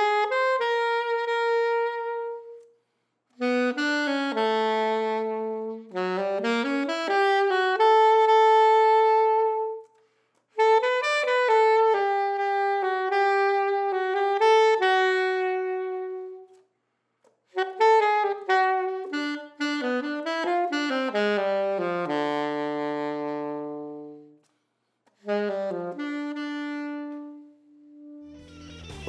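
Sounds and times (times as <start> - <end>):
alto saxophone playing: 0.0 - 16.7, 17.5 - 24.5, 25.1 - 29.0.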